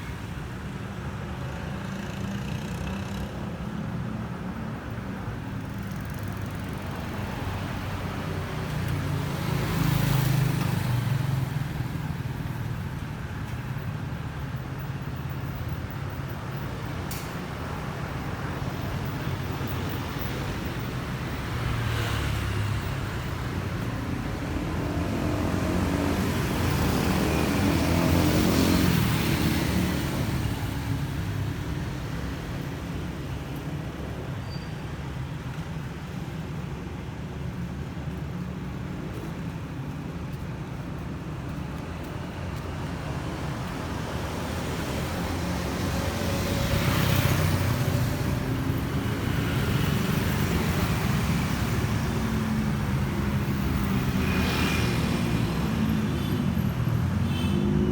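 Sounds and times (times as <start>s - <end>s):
road and traffic noise: 0.0s - 57.9s.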